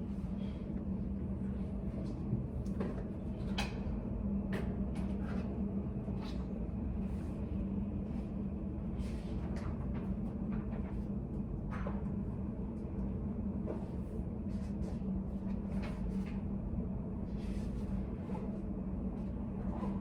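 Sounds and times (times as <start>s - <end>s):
low room hum and rumble: 0.0s - 20.0s.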